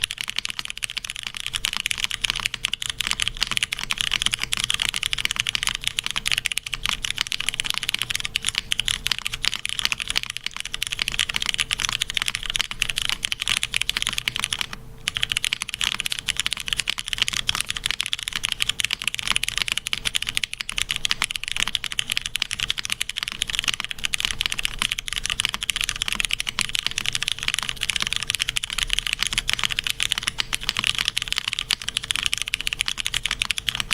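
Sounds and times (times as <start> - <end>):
fast typing on mechanical keyboard: 0.0 - 33.9.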